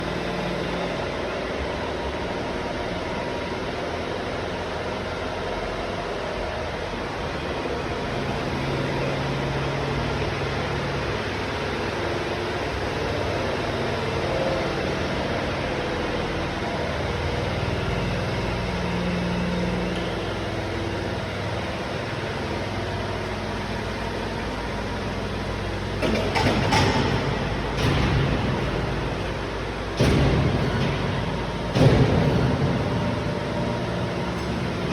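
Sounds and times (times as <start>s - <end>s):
machinery humming: 0.0s - 34.9s.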